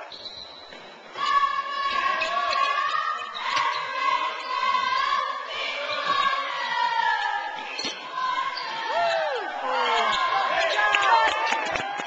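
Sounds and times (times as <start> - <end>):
crowd shouting and cheering: 1.2 - 12.0.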